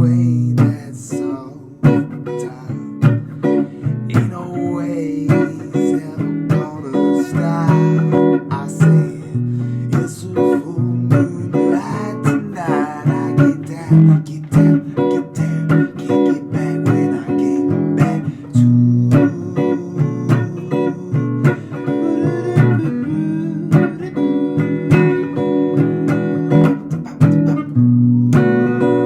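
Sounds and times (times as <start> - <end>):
blues guitar playing: 0.0 - 29.0.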